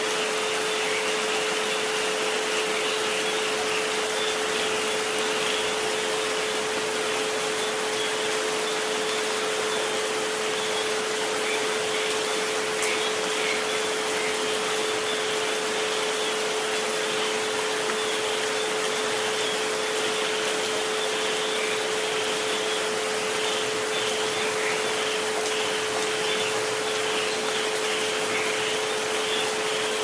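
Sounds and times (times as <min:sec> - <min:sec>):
faint raindrop ticks: 0:00.0 - 0:15.4, 0:16.0 - 0:29.5
steady rain hiss: 0:00.0 - 0:30.0.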